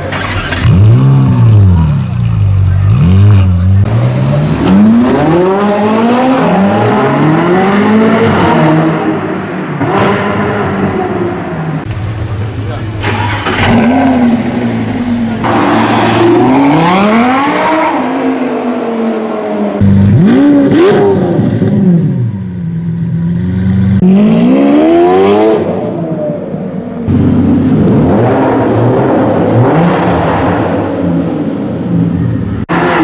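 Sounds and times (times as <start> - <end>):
sports car engine revving: 0.0 - 11.2, 11.8 - 26.4, 27.0 - 33.0.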